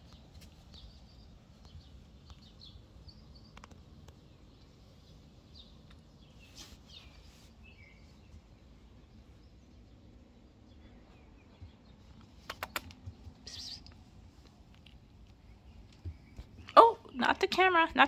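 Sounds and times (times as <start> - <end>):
birds chirping: 0.0 - 18.0
low steady hum: 0.0 - 18.0.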